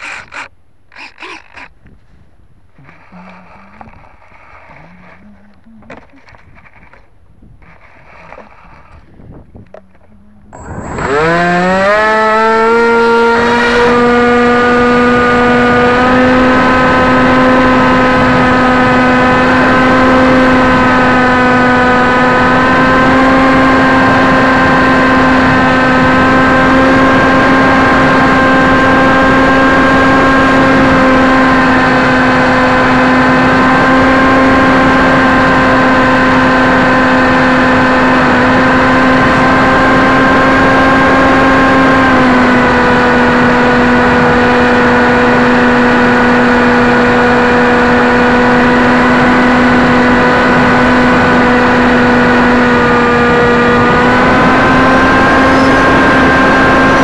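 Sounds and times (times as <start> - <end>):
model plane motor and propeller whining: 0.0 - 1.8, 2.8 - 57.0.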